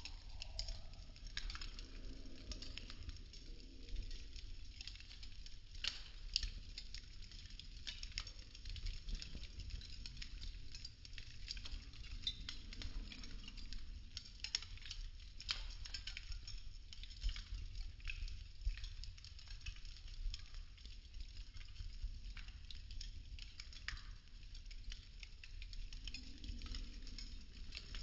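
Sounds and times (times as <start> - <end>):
burning wood crackling and popping: 0.0 - 28.0.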